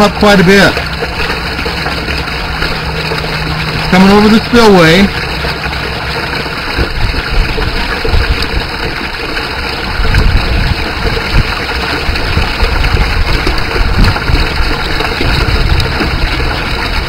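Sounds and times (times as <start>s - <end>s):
heavy low rumble: 0.0s - 17.0s
water rushing and splashing: 0.0s - 17.0s.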